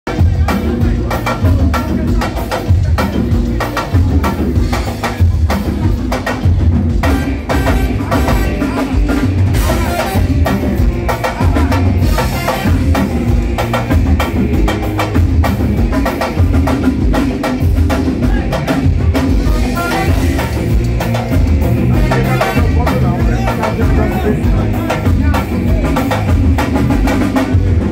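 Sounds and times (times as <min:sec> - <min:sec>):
drums driving beat: 0:00.0 - 0:27.9
live band playing: 0:00.0 - 0:27.9.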